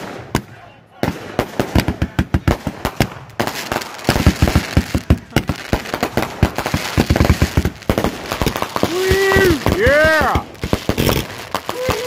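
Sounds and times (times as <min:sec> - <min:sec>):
fireworks pops and bangs: 0:00.0 - 0:12.0.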